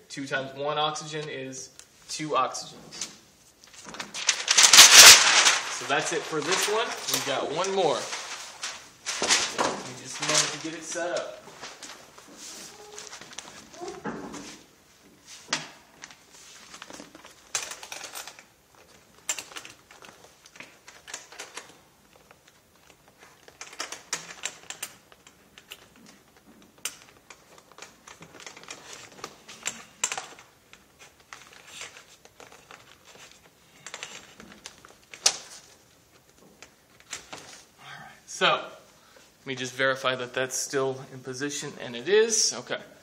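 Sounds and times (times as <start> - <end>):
paper rustling: 2.8 - 37.7.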